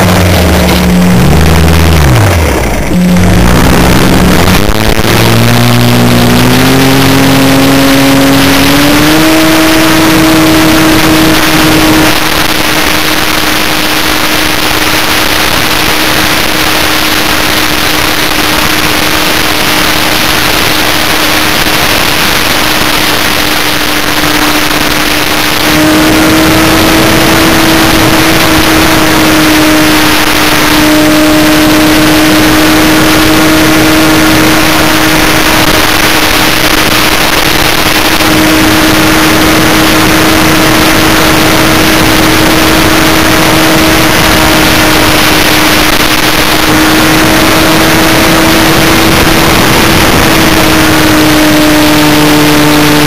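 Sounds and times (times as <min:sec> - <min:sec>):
heavy wind rush: 0:00.0 - 0:53.0
model plane propeller drone: 0:00.0 - 0:53.0.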